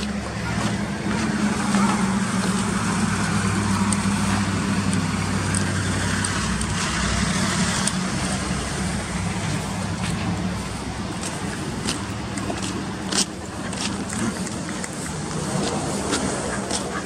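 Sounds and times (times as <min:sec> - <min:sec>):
continuous noisy background: 0:00.0 - 0:17.0
low engine-like hum: 0:00.0 - 0:17.0.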